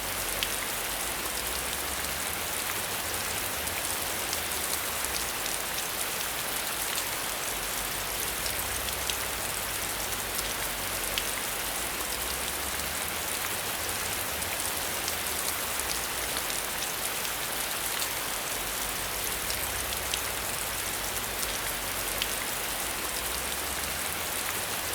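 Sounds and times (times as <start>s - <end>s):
rain pattering: 0.0s - 24.9s.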